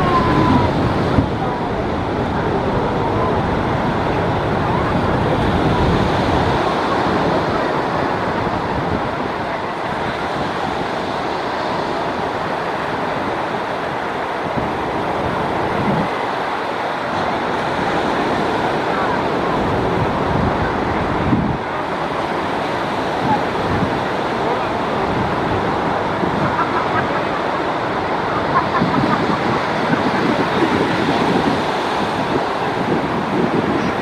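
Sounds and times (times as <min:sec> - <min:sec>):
ocean surf washing ashore: 0:00.0 - 0:34.0
wind noise on microphone: 0:00.0 - 0:34.0.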